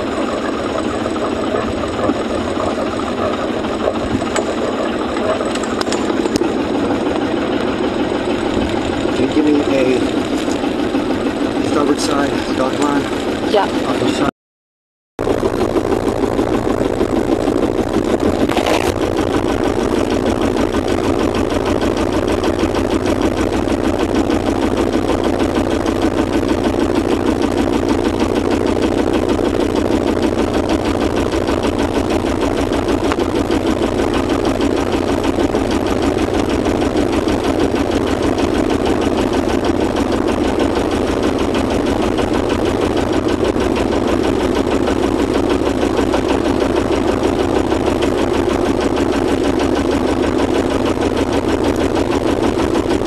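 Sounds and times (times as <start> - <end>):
boat engine running: 0.0 - 14.3, 15.2 - 53.0.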